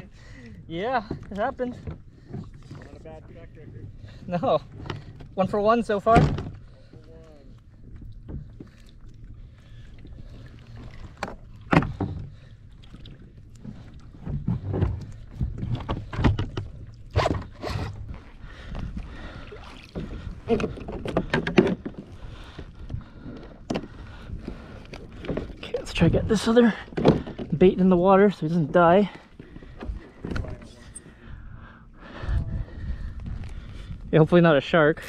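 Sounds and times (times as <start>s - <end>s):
wind and water rumble: 0.0s - 35.0s.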